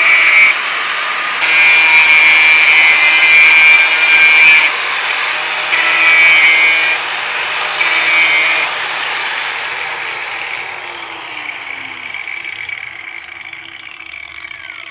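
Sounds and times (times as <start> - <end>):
angle grinder cutting metal: 0.0 - 14.9
grinder running without load: 0.0 - 14.9.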